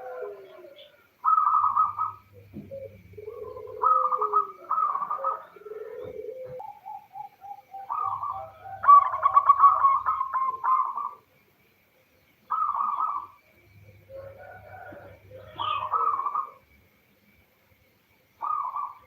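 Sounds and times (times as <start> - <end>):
dove cooing: 0.0 - 11.3, 12.5 - 16.8, 18.4 - 19.0.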